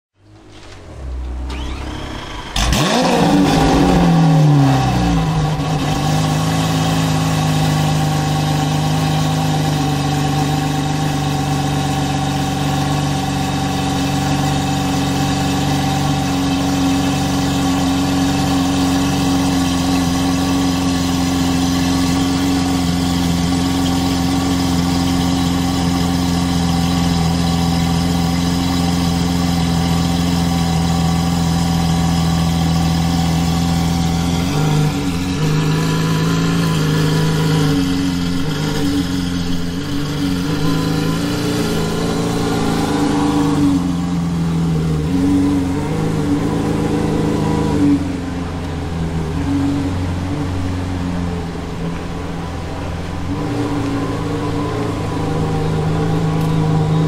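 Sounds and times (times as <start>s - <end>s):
car engine idling: 0.1s - 57.0s.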